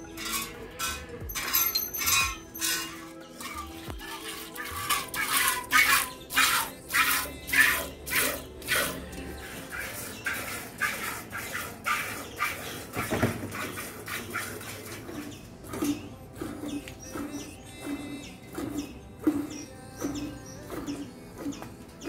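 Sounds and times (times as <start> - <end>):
milk squirting into a pot: 2.6 - 21.0.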